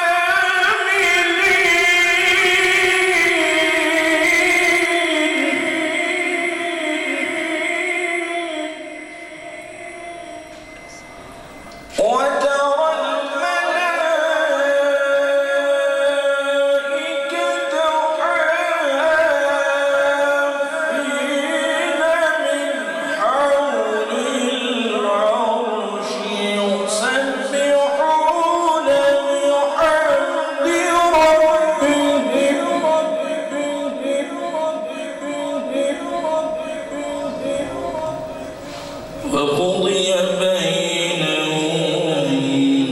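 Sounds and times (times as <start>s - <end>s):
man chanting religious recitation: 0.0s - 9.1s, 11.9s - 42.9s.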